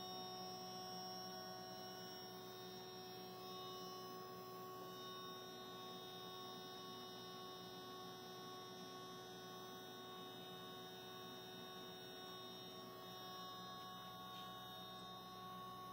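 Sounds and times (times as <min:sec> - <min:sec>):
faint electrical hum: 0:00.0 - 0:15.9.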